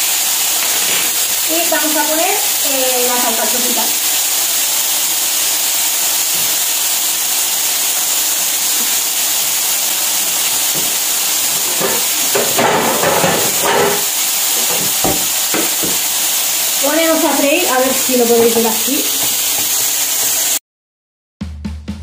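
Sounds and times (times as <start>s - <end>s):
chicken sizzling in hot oil: 0.0s - 20.6s.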